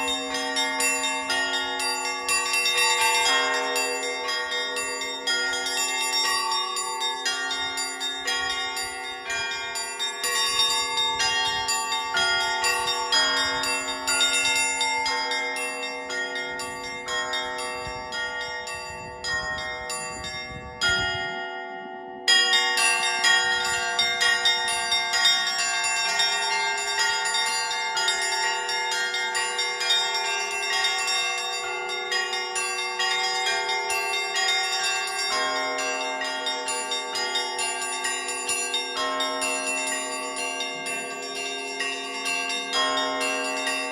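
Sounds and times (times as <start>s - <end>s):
deep bells ringing: 0.0s - 43.9s
small high bells ringing: 0.0s - 43.9s.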